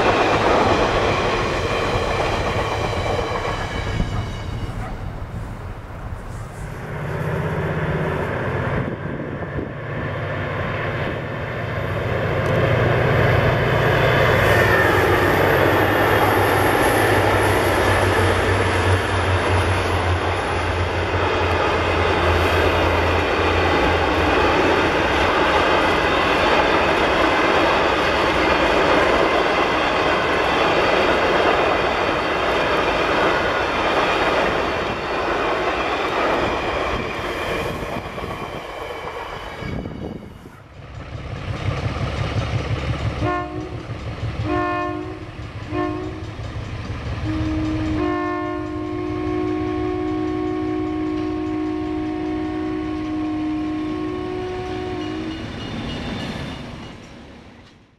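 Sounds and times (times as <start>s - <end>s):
train cars rumbling on bridge: 0.0s - 57.9s.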